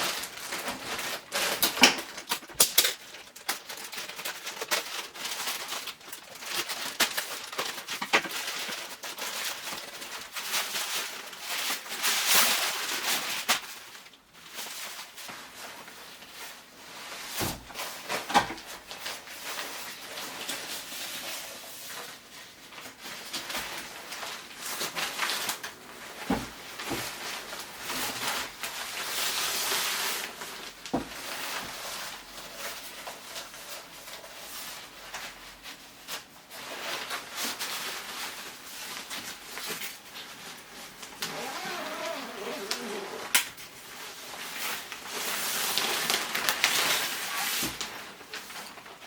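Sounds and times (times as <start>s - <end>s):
packaging rustling and scraping: 0.0s - 49.0s.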